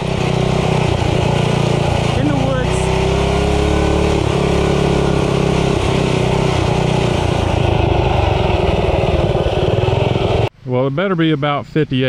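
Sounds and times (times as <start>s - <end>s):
small engine running hard: 0.0s - 10.5s.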